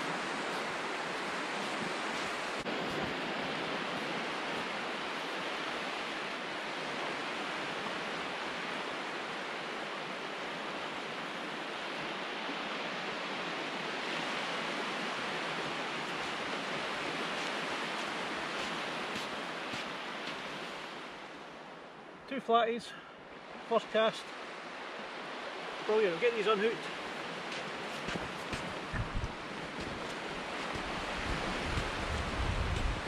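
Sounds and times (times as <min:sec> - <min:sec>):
small waves breaking on beach: 0:00.0 - 0:33.0.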